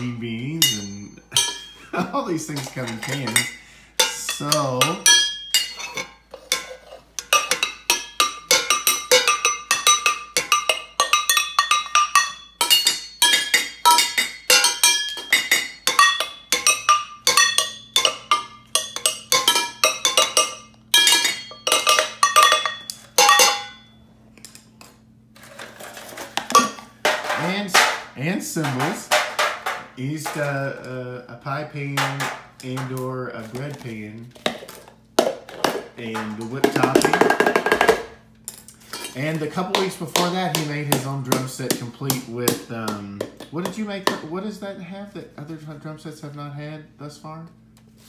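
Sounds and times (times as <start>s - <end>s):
sticks beating tin cans: 0.0s - 23.8s, 26.3s - 30.8s, 31.9s - 38.2s, 39.0s - 44.3s.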